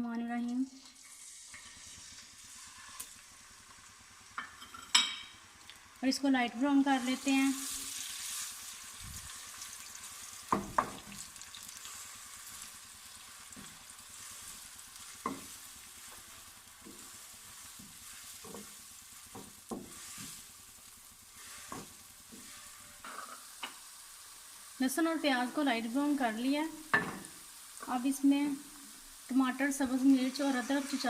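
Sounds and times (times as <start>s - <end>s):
paste sizzling in hot oil: 0.8s - 31.0s.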